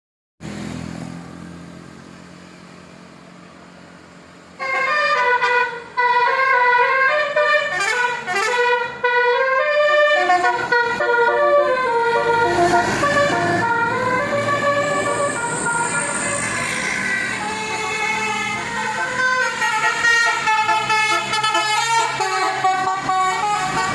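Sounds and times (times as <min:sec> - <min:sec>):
low engine hum: 0:00.4 - 0:23.9
multi-tone bus horn melody: 0:04.6 - 0:23.9.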